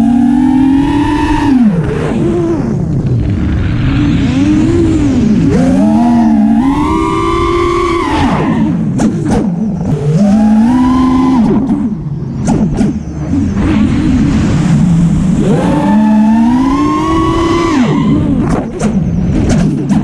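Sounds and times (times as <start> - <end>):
quadcopter motors whining: 0.0 - 2.9, 3.8 - 12.3, 13.0 - 18.9.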